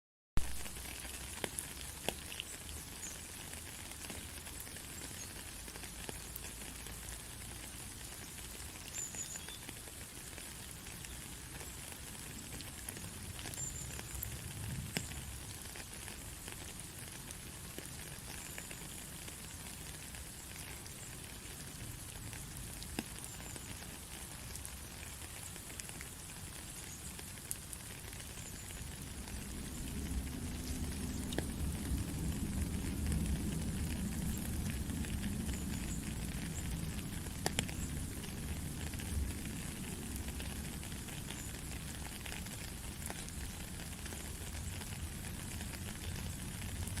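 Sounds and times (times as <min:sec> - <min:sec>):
rain falling: 0:00.4 - 0:47.0
sharp raindrop ticks: 0:00.4 - 0:47.0.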